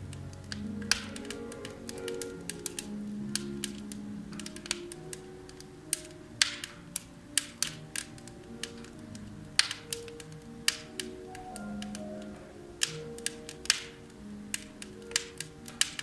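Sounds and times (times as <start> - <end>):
firewood crackling and popping: 0.0 - 16.0
soft slow cafe music: 0.0 - 16.0.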